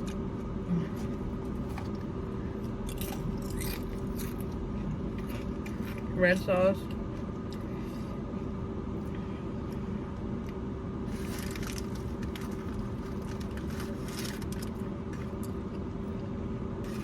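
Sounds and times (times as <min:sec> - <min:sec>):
car humming: 0:00.0 - 0:17.0.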